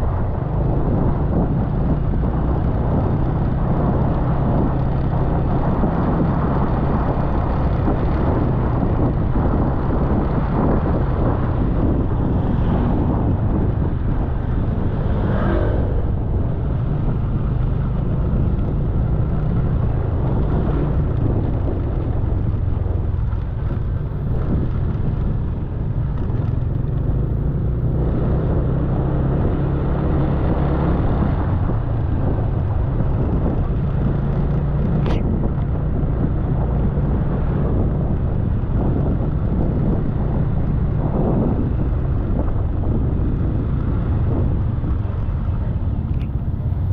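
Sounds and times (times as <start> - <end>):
wind and road noise: 0.0 - 46.9.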